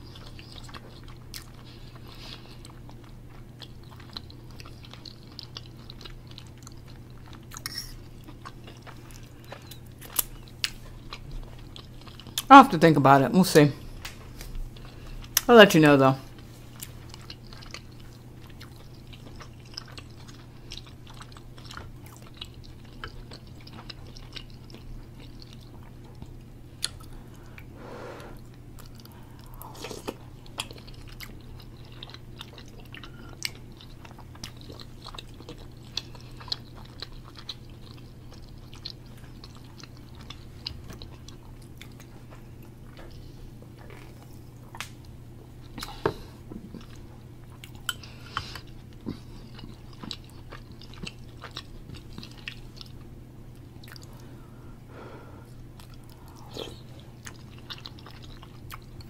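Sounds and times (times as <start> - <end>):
mouth chewing food: 0.0 - 12.5, 16.1 - 27.7, 28.3 - 54.4, 55.5 - 59.0.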